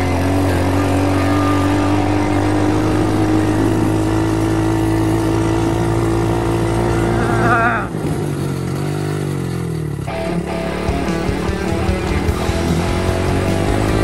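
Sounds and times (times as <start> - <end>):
motorbike engine running: 0.0 - 14.0.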